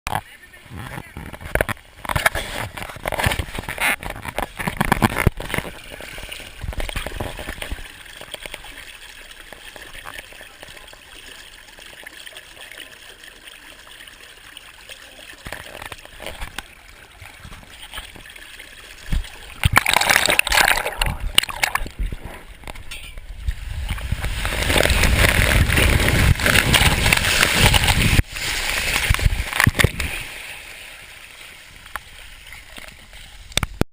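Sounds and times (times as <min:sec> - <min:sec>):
water rushing down a waterslide: 0:00.2 - 0:33.8.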